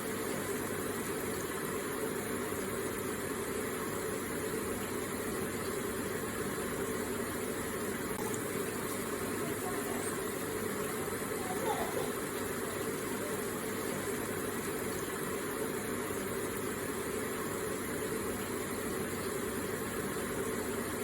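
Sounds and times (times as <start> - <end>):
water feature trickling: 0.0 - 21.0.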